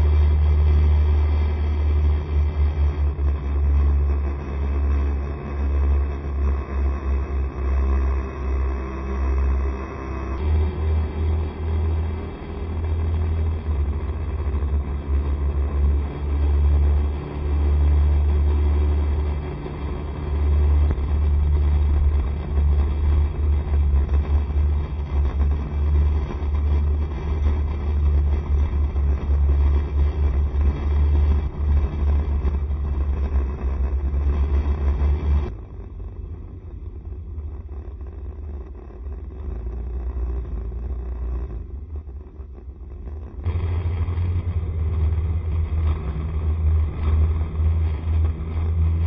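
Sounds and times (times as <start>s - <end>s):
heavy low rumble: 0.0s - 49.0s
road noise: 0.0s - 49.0s.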